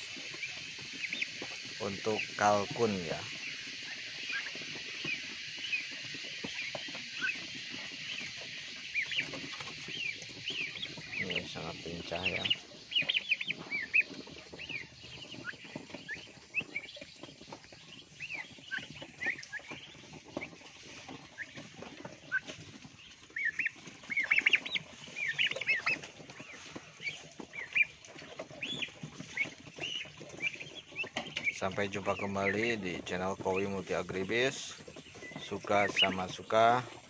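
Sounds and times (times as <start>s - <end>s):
turkey poults peeping: 0.0s - 37.0s.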